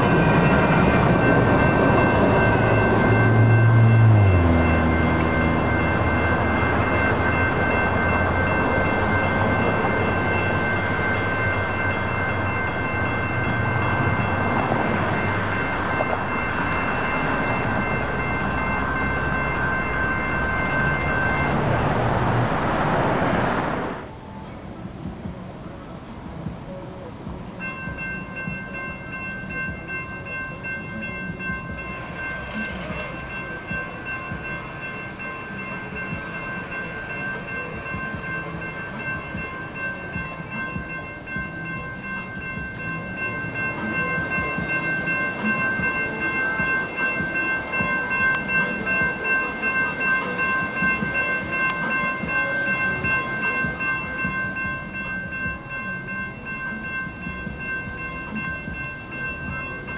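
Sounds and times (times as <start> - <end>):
railroad crossing bell ringing: 0.0 - 22.3, 23.5 - 59.9
train rumble: 0.0 - 59.9.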